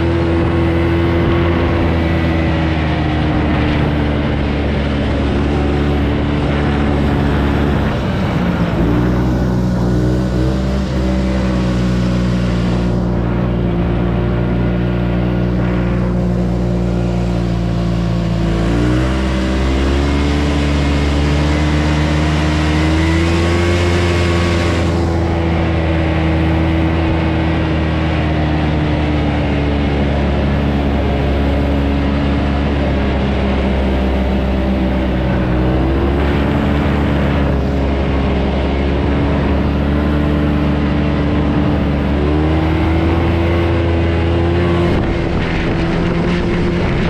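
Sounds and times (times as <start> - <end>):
snowmobile engine running: 0.0 - 47.0.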